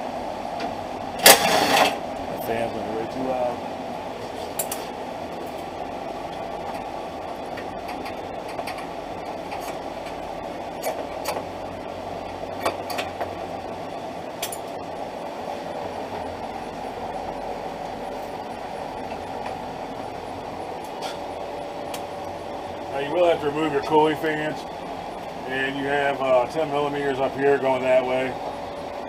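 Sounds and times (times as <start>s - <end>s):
steady background whir: 0.0s - 29.0s.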